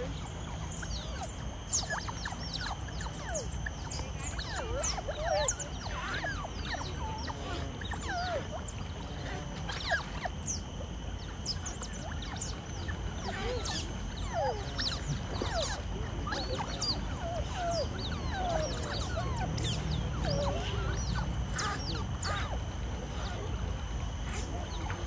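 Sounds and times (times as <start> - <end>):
otters squeaking and chirping: 0.0 - 25.0.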